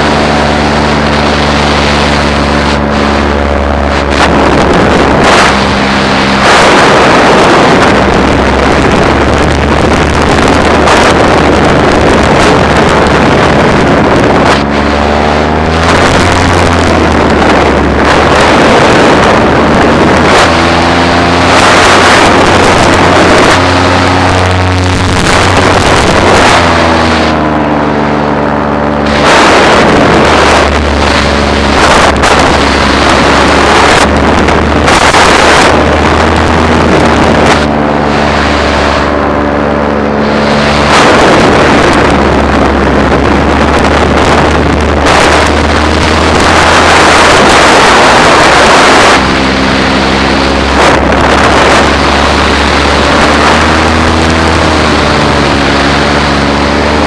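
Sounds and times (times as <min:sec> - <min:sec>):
paramotor engine and propeller: 0:00.0 - 0:57.0
wind on microphone: 0:00.0 - 0:57.0.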